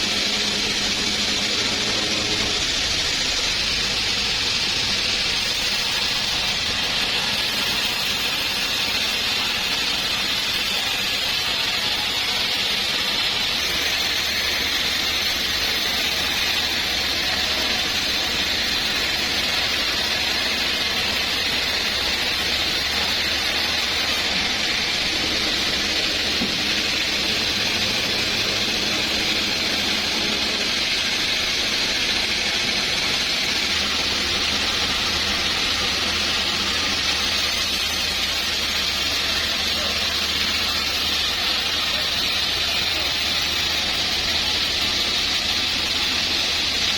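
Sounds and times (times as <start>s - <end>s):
sawmill saw running: 0.0s - 46.9s.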